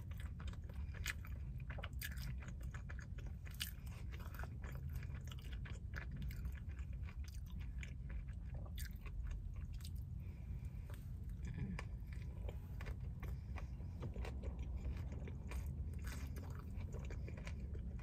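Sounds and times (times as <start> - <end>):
low hum: 0.0 - 18.0
person chewing food: 0.0 - 18.0.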